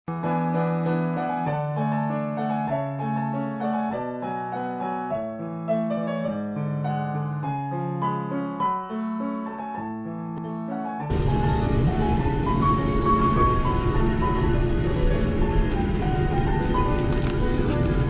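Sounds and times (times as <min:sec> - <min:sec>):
piano music: 0:00.1 - 0:18.0.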